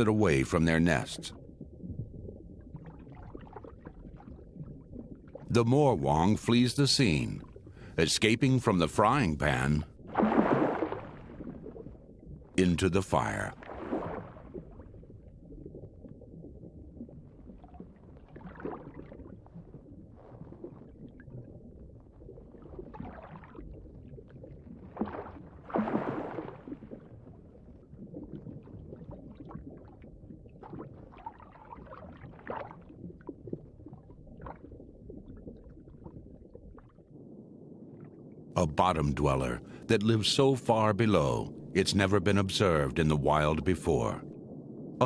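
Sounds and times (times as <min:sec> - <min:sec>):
low underwater rumble: 0:00.0 - 0:06.4, 0:08.8 - 0:45.0
water swishing and gurgling: 0:00.0 - 0:45.0.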